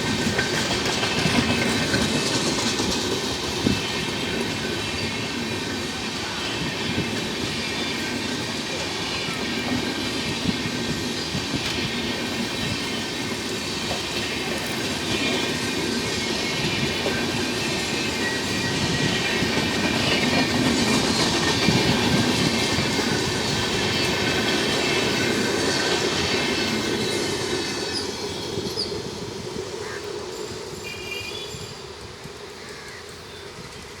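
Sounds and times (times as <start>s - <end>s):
train wheels clattering on track: 0.0s - 34.0s.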